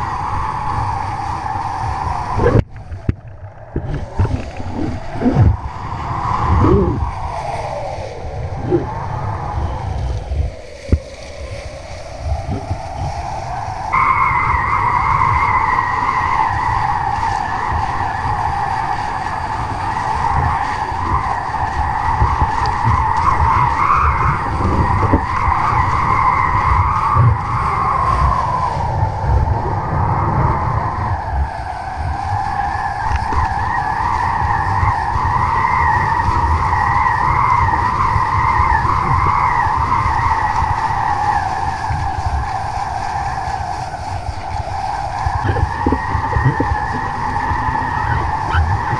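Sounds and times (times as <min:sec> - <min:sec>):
high whistling wind tone: 0:00.0 - 0:48.9
wind buffeting microphone: 0:00.0 - 0:48.9.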